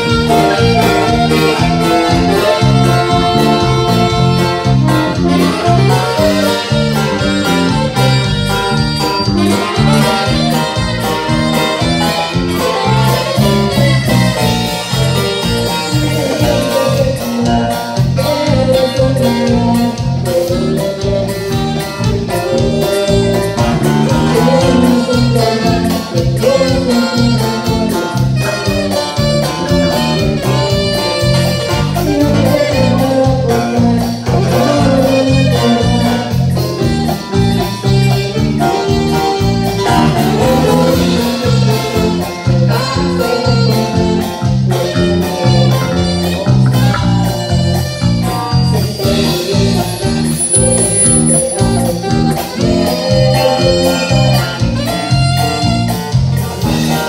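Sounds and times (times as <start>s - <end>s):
button accordion lead: 0.0s - 57.0s
strummed guitar: 0.0s - 57.0s.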